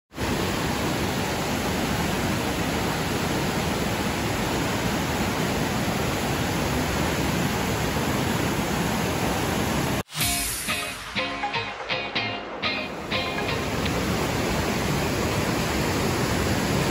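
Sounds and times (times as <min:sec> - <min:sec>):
river rushing over rocks: 0:00.2 - 0:10.0, 0:12.6 - 0:16.9.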